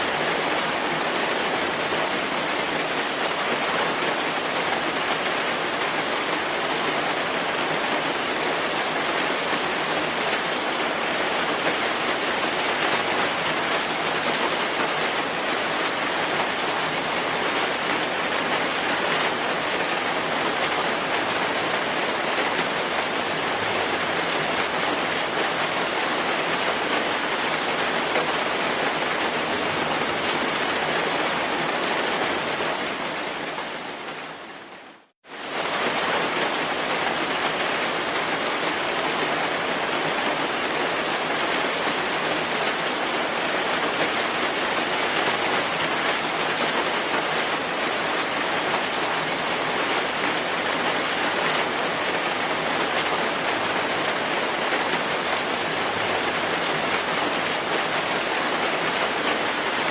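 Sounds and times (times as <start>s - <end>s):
dense rainfall: 0.0s - 59.9s.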